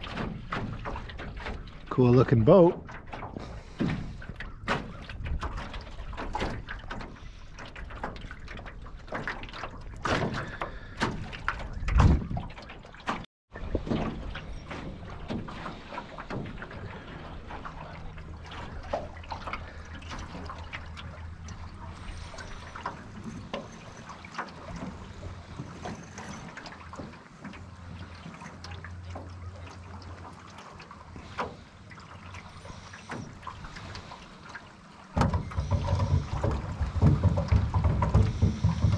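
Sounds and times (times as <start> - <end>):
small splashes: 0.0 - 38.9
water slapping against metal hull: 0.0 - 38.9.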